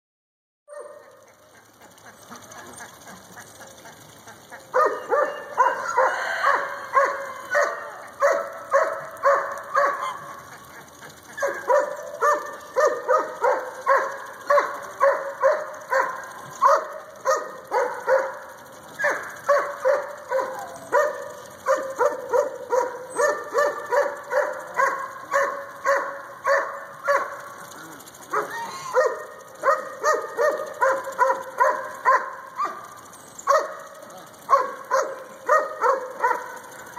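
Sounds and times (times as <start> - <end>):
dog barking: 0.7 - 1.2, 4.7 - 10.4, 11.2 - 32.9, 33.5 - 36.7.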